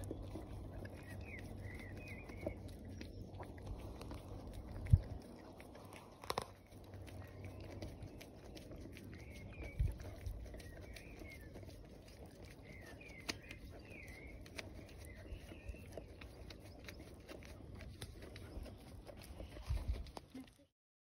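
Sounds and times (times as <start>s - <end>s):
low steady rumble: 0.0s - 20.6s
small birds chirping: 0.0s - 20.7s.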